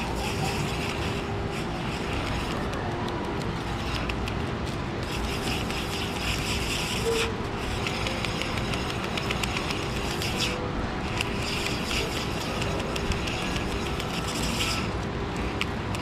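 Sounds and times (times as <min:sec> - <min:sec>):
background rumble with low hum: 0:00.0 - 0:16.0
sticker backing peeling: 0:00.0 - 0:16.0.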